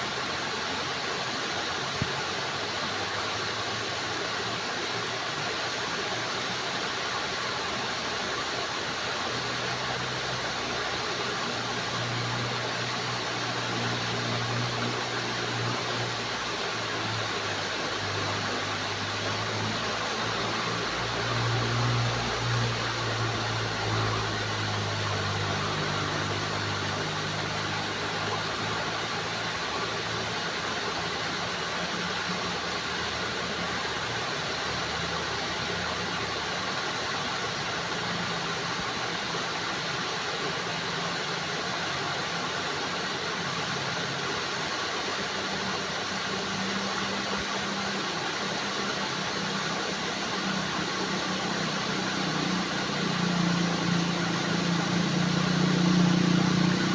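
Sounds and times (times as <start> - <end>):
flowing water rushing: 0.0 - 56.9.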